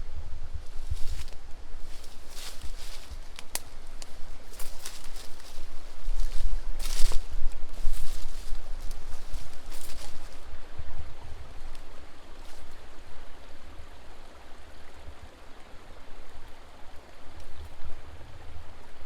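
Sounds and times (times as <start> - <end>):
stream rushing under rocks: 0.0 - 19.0.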